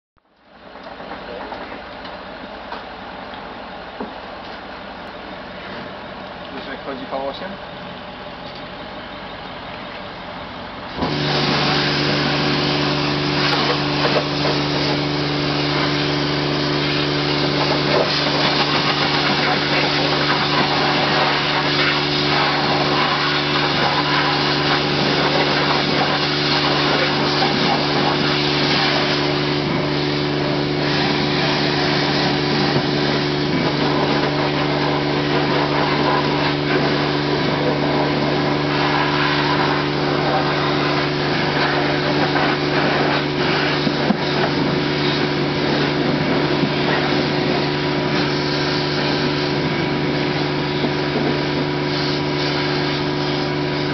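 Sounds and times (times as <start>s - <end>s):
car wash motor hum: 0.2s - 53.9s.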